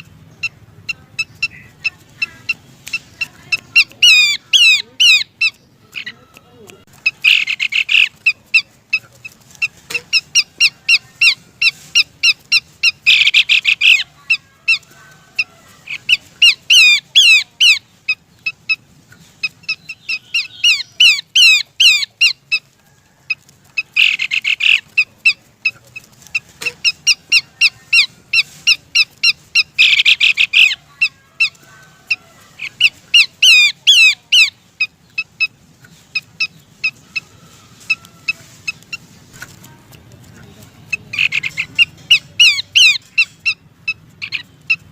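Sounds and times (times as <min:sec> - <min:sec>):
bird calling with rasps and chips: 0:00.0 - 0:44.9.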